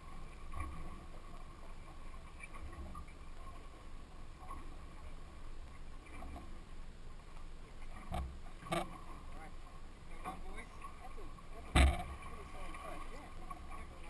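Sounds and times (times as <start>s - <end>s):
faint steady hum: 0.0s - 14.0s
water lapping against hull: 0.0s - 14.0s.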